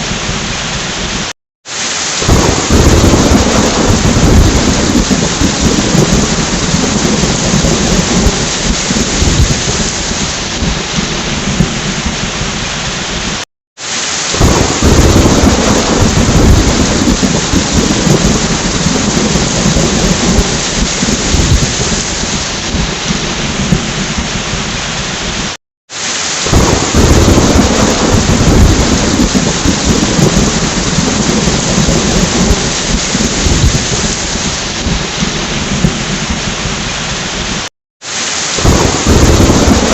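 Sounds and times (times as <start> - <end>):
heavy rain: 0.0 - 39.9
deep rolling thunder: 2.2 - 12.8, 14.4 - 24.8, 26.5 - 36.9, 38.6 - 39.9.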